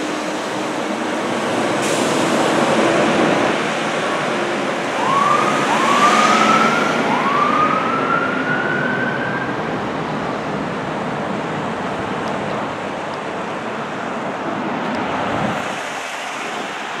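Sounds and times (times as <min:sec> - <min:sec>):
emergency vehicle sirens: 0:00.0 - 0:13.9
traffic noise: 0:00.0 - 0:17.0.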